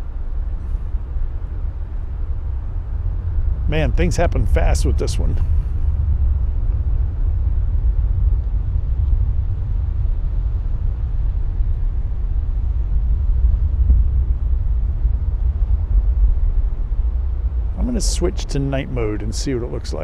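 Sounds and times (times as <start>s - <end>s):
distant rocket launch rumble: 0.0s - 20.0s.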